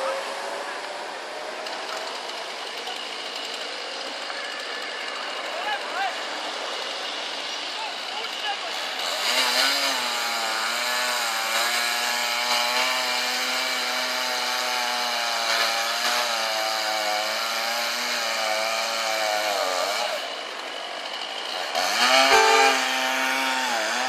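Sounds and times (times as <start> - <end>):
chainsaw engine revving: 1.6 - 24.0.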